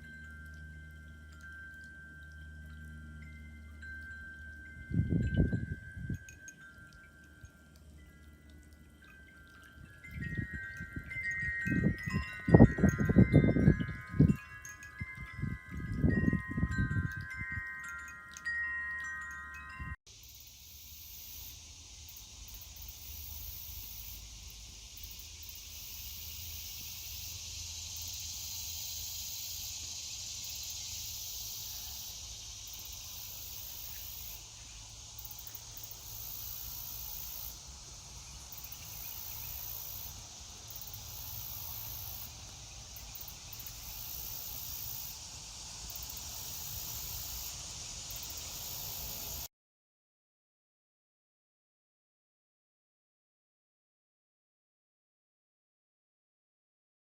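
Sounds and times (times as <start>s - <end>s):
fountain water spray hiss: 0.0s - 49.5s
insects chirping: 0.0s - 49.5s
wind chimes ringing: 0.0s - 49.5s.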